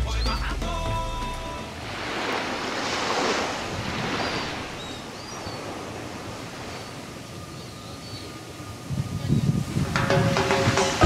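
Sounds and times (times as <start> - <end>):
wave breaking and washing in: 1.0 - 11.0
soft steady surf wash: 1.4 - 11.0.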